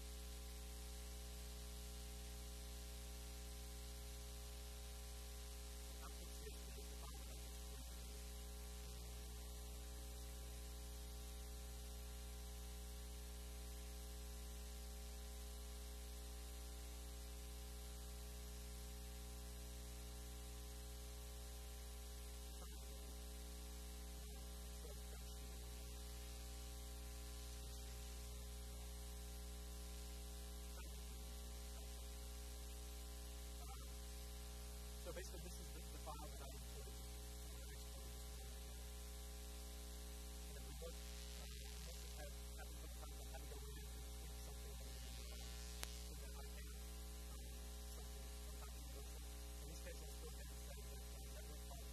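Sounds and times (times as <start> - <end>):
constant hiss: 0.0 - 51.9
electrical mains hum: 0.0 - 51.9.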